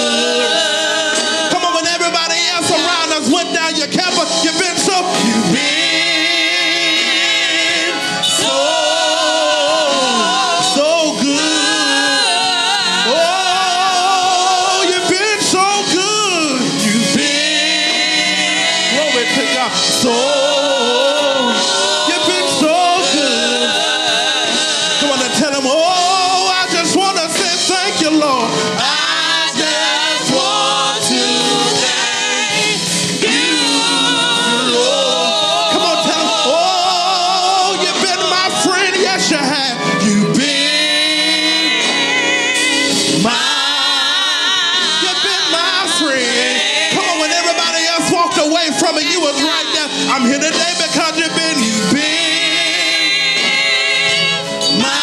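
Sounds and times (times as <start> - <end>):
women singing along: 0.0 - 3.4, 4.9 - 55.0
man singing gospel lead: 0.0 - 55.0.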